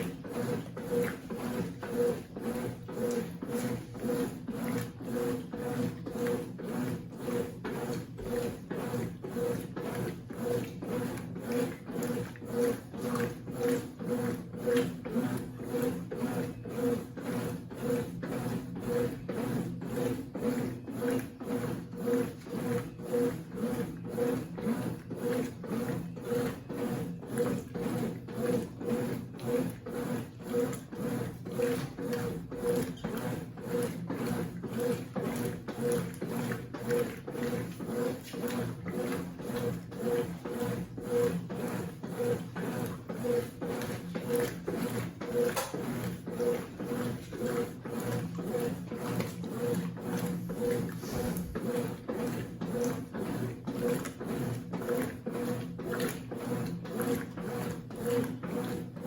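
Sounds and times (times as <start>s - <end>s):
washing machine agitating: 0.0s - 59.0s.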